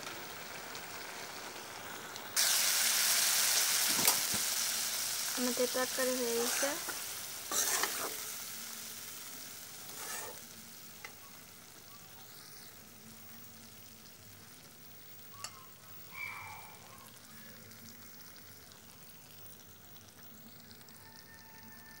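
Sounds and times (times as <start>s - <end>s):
curry bubbling and sizzling: 0.0s - 22.0s.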